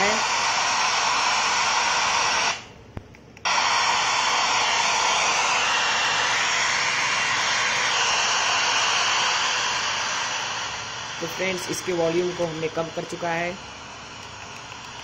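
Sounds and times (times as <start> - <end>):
radio static hissing: 0.0 - 2.7, 3.5 - 15.0.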